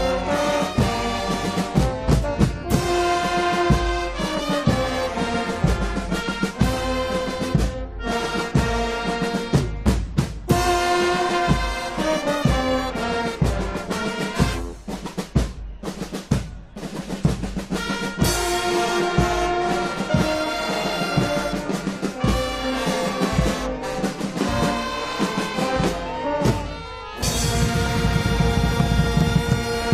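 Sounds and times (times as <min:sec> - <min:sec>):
brass band playing: 0:00.0 - 0:29.9.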